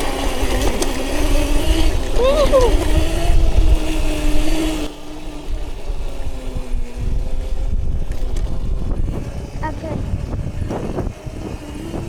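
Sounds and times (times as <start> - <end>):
wind on microphone: 0.0 - 4.9, 5.5 - 12.0
electric motorbike motor whining: 0.0 - 12.0.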